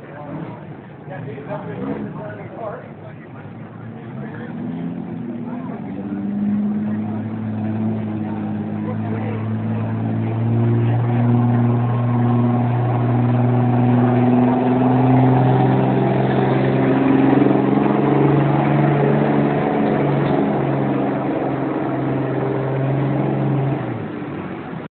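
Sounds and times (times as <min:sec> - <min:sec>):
pickup engine running hard: 0:00.0 - 0:24.9.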